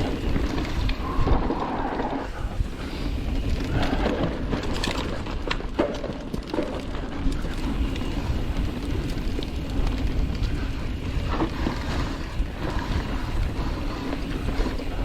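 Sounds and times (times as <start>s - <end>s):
bike rattling over rough ground: 0.0s - 15.0s
bike tyres rumbling on dirt: 0.0s - 15.0s
wind: 0.0s - 15.0s.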